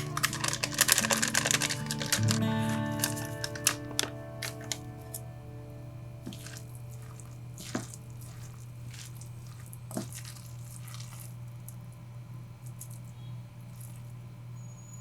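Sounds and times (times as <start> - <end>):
wet squishy food handling: 0.0 - 14.3
steady low hum: 0.0 - 14.6.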